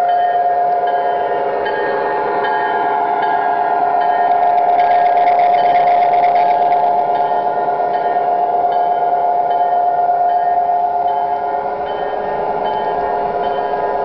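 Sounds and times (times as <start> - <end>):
model train metallic hum: 0.0 - 14.0.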